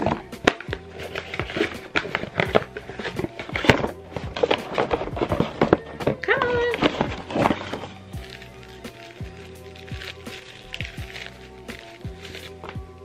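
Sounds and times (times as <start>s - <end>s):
packaging clicks and rustles: 0.0s - 13.0s
quiet background music: 0.0s - 13.0s.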